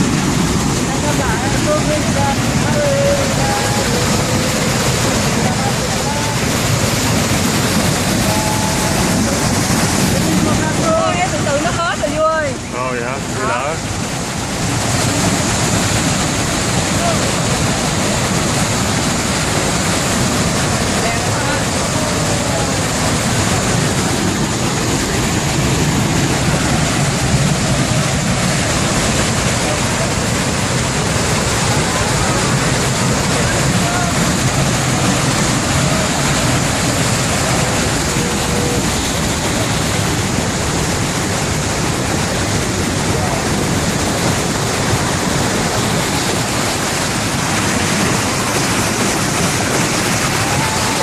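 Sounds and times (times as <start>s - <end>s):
loud rush of falling water: 0.0s - 51.0s.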